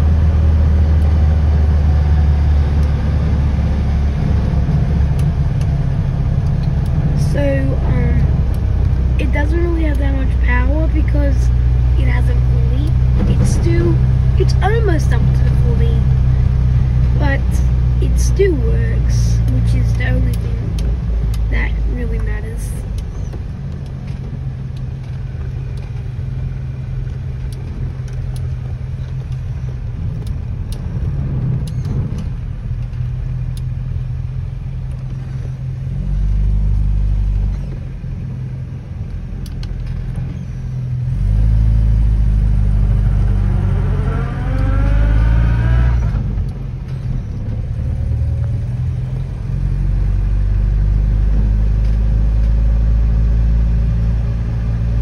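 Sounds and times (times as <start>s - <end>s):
car engine drone from cabin: 0.0s - 55.0s.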